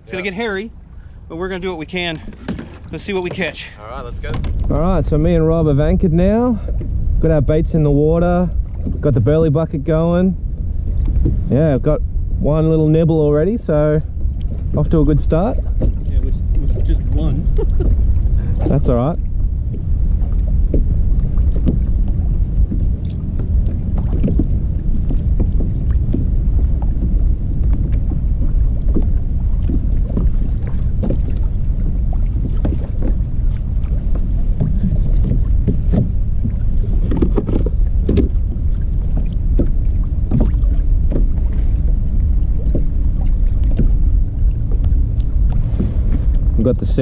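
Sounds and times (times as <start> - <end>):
waves slapping against hull: 0.0 - 47.0
wind buffeting microphone: 0.0 - 47.0.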